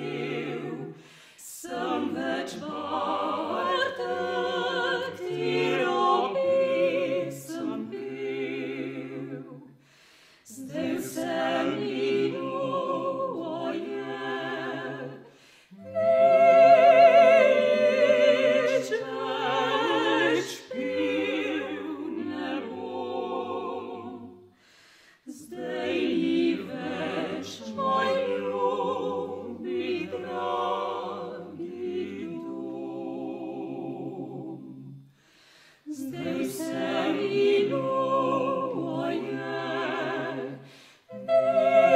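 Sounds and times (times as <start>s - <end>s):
vocal quartet singing a cappella: 0.0s - 41.9s.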